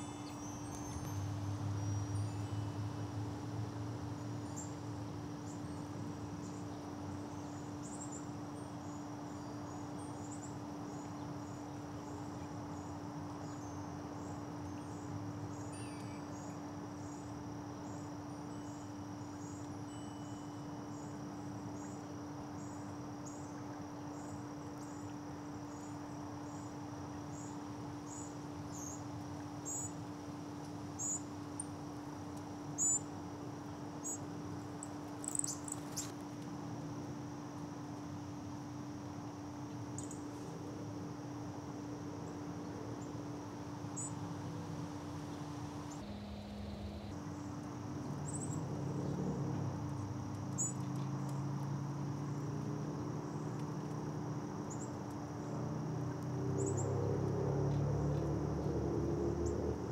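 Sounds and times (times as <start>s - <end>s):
constant low hum: 0.0s - 59.9s
insects chirping: 0.0s - 59.9s.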